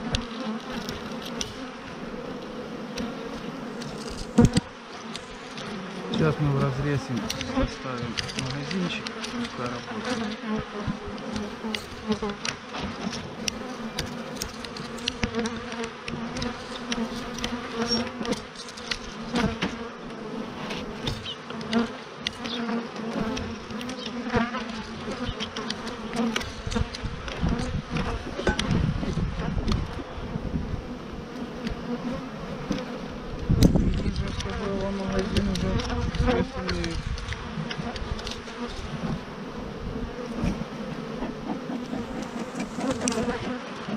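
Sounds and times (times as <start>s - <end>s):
honeybees buzzing: 0.0s - 43.9s.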